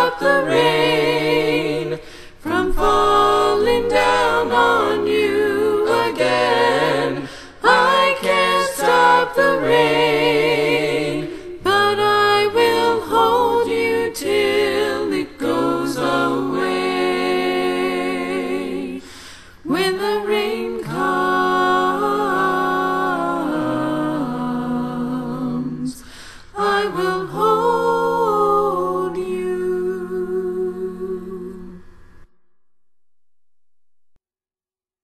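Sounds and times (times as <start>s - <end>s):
a cappella harmony singing: 0.0s - 32.3s.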